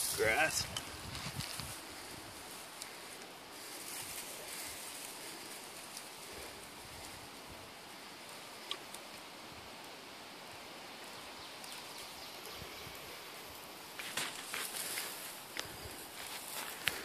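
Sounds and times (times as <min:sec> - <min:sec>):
dry grass rustling and crackling: 0:00.0 - 0:17.0
outdoor background hiss: 0:00.0 - 0:17.0.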